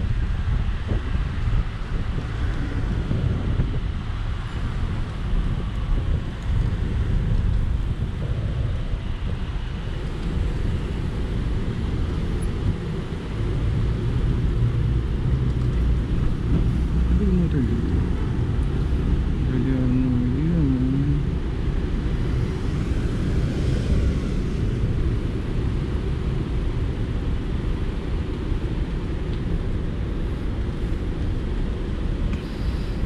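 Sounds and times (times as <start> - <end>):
low rumble of road noise: 0.0 - 33.0
wind buffeting microphone: 0.0 - 33.0.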